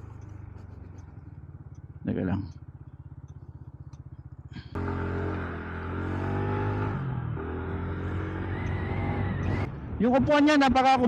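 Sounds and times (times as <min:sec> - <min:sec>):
scooter engine idling and accelerating: 0:00.0 - 0:11.0.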